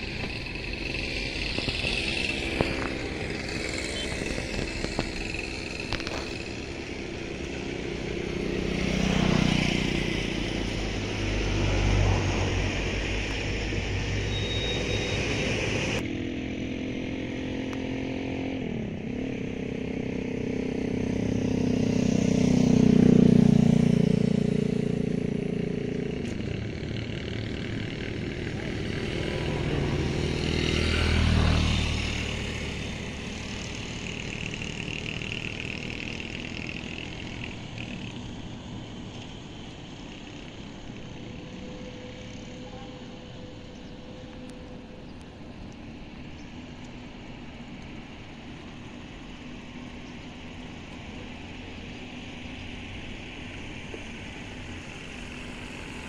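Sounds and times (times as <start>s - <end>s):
vehicles passing by: 0.0s - 56.0s.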